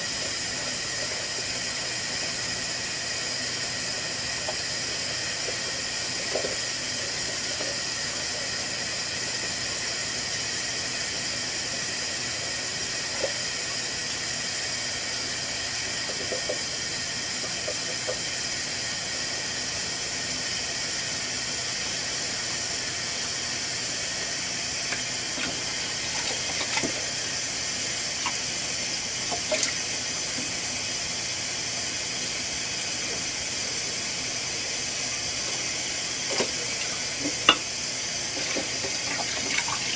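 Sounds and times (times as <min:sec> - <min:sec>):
washing appliance hissing: 0:00.0 - 0:39.9.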